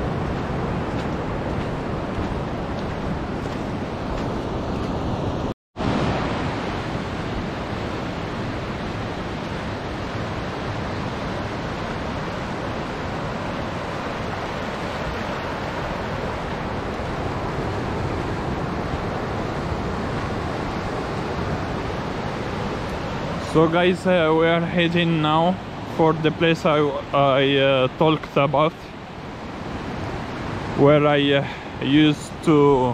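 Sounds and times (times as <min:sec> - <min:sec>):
steady rushing noise: 0:00.0 - 0:32.9.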